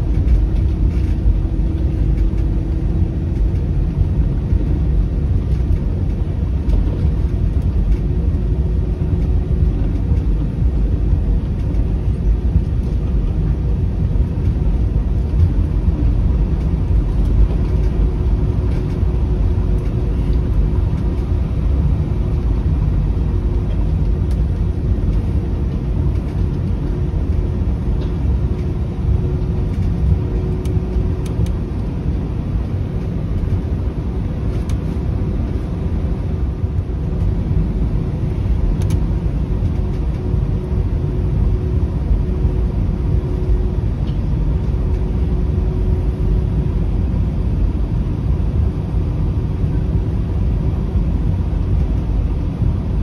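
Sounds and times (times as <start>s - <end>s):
aircraft engines idling rumble: 0.0s - 53.0s.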